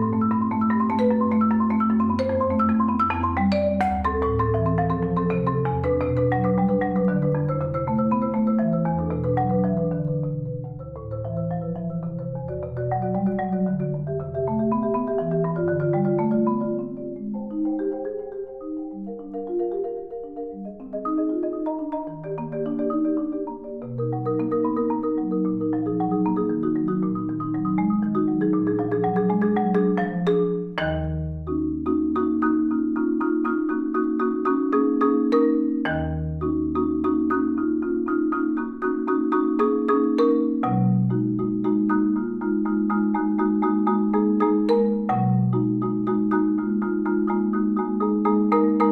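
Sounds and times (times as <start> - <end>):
solo marimba music: 0.0 - 48.9.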